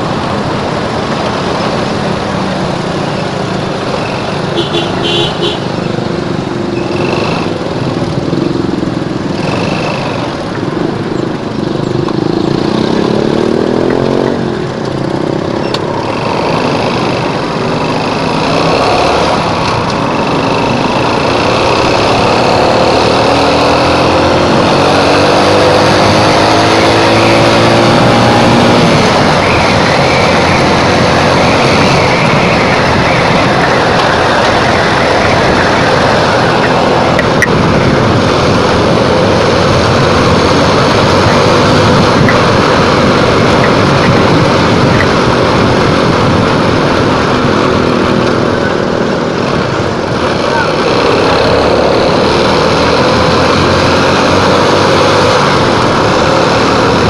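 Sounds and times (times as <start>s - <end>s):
motorcycle engine revving: 0.0s - 57.0s
road and wind noise: 0.0s - 57.0s.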